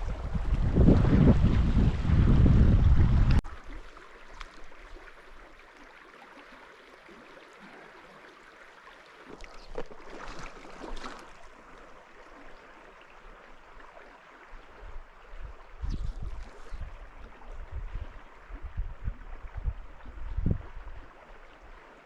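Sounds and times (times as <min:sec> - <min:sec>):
river water running: 0:00.0 - 0:22.0
water splashes: 0:00.0 - 0:22.0.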